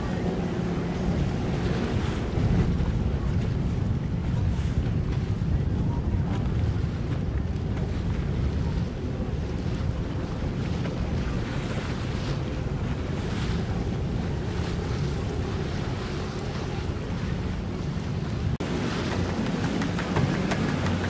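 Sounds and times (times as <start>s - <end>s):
open water washing: 0.0s - 21.0s
wind buffeting microphone: 0.0s - 21.0s.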